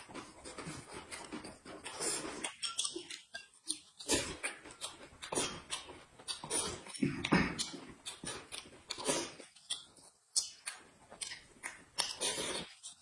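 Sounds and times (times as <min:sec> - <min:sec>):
person chewing and slurping: 0:00.0 - 0:13.0.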